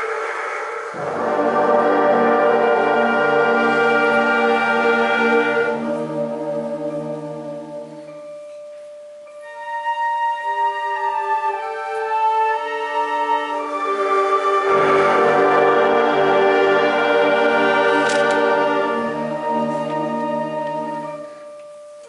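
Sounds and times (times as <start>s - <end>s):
wind band playing: 0.0s - 8.6s, 9.4s - 21.6s.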